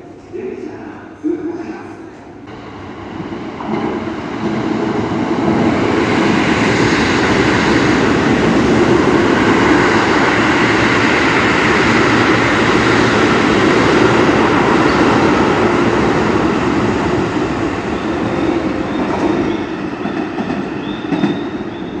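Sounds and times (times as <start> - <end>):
train wheels rushing on rail: 2.5 - 22.0.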